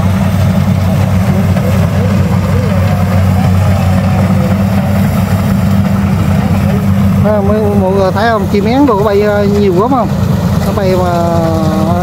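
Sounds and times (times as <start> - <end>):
faint voices: 0.0 - 12.0
harvester engine droning: 0.0 - 12.0.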